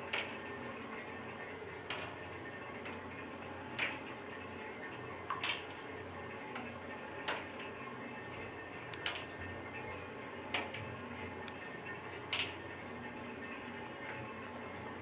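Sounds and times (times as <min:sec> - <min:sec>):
water drips plinking: 0:00.0 - 0:07.9, 0:08.7 - 0:09.8, 0:10.4 - 0:14.4.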